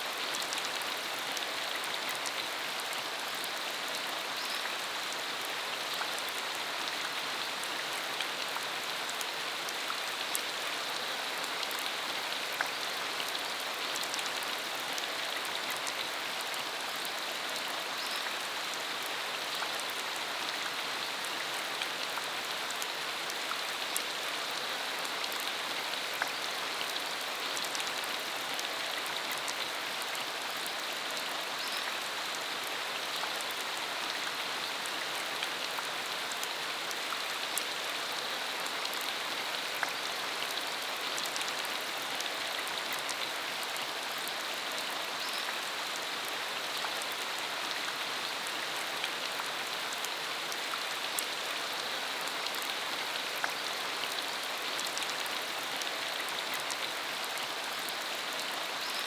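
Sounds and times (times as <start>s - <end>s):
rain on a dirt road: 0.0s - 59.0s.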